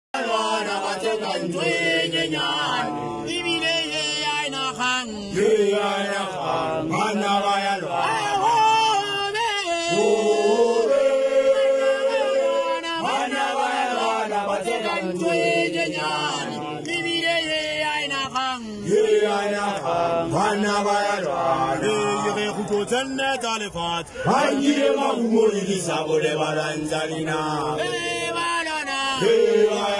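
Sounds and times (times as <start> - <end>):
men chanting and singing: 0.2 - 29.9.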